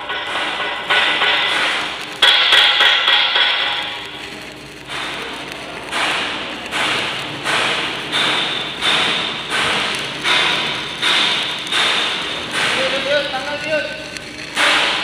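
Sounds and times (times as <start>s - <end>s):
welding arc crackling hiss: 0.0s - 15.0s.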